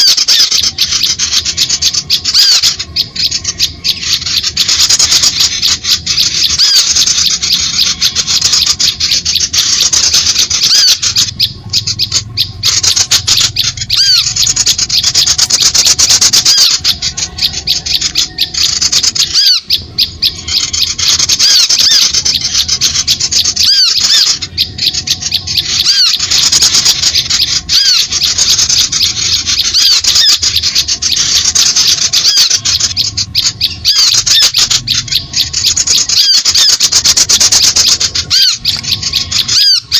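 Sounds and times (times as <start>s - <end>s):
high chirping bird calls: 0.0s - 39.9s.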